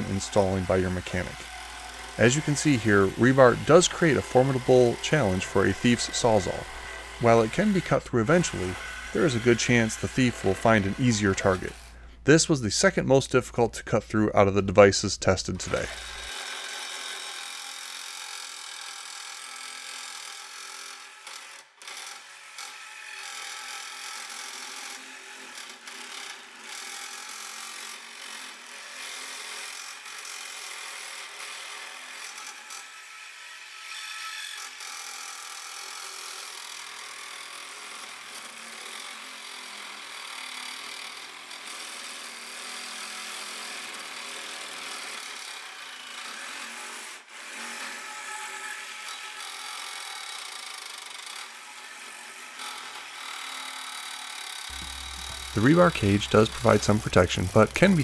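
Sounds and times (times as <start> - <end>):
reciprocating saw cutting metal: 0.0 - 12.2, 15.2 - 58.0.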